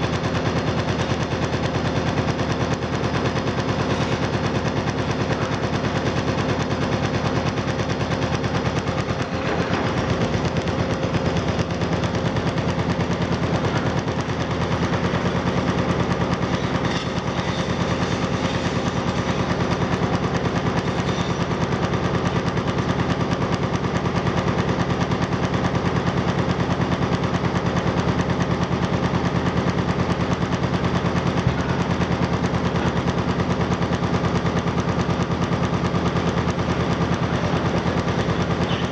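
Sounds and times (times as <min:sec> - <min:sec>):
diesel engine running: 0:00.0 - 0:38.9
hydraulic breaker hammering concrete: 0:00.0 - 0:38.9.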